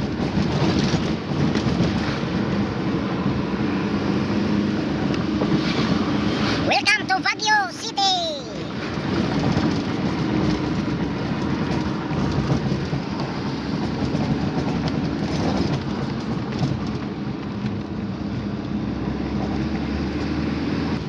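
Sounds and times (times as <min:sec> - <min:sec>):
vehicle engine: 0:00.0 - 0:07.3, 0:08.5 - 0:21.0
road noise inside cabin: 0:00.0 - 0:21.0.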